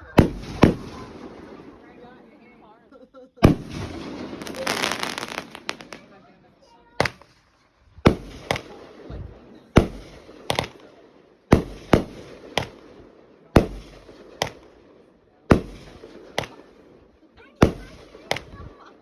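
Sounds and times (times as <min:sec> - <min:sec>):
fireworks banging: 0:00.0 - 0:02.5, 0:03.4 - 0:06.3, 0:06.9 - 0:18.9.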